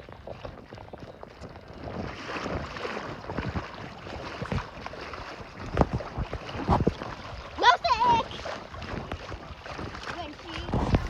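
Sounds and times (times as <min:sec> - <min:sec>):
water sloshing and splashing: 0:00.0 - 0:11.0
wind on microphone: 0:00.0 - 0:11.0.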